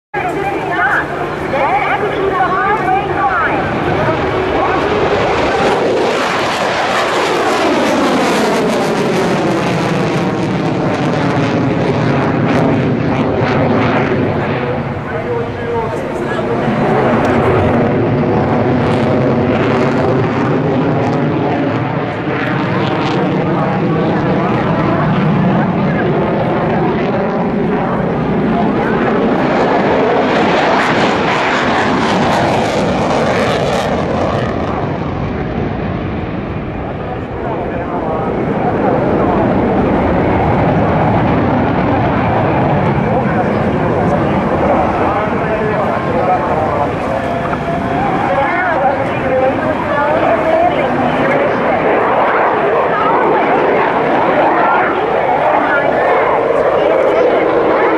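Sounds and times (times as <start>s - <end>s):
jet flying past: 0.2s - 57.9s.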